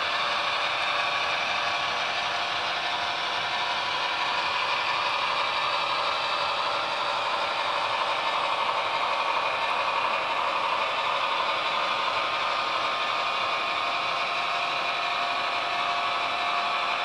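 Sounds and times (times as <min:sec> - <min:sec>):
model train wheels rattling: 0:00.0 - 0:17.0.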